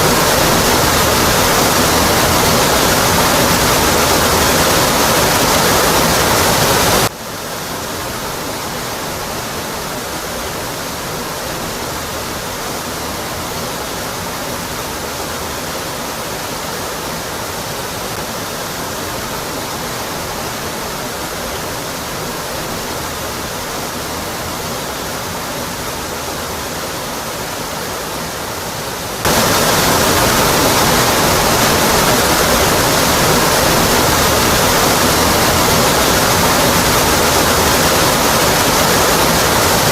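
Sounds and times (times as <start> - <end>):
waterfall rushing onto rock: 0.0 - 39.9.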